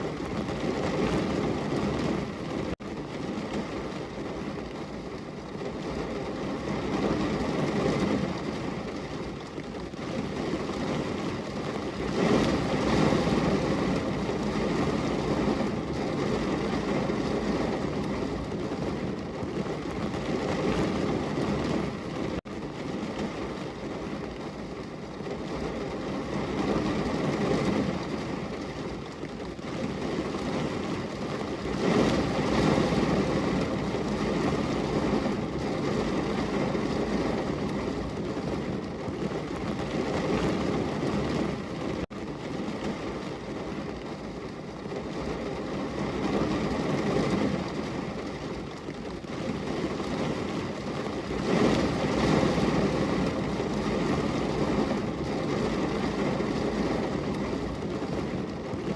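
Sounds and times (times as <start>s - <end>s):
heavy rain on a window: 0.0s - 58.9s.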